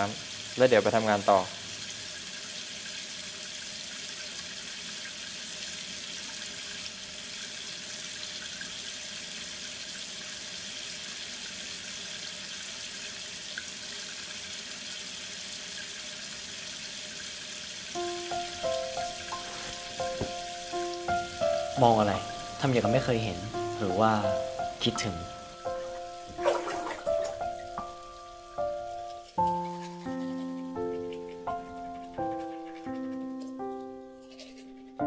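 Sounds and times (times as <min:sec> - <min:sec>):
water running: 0:00.0 - 0:35.0.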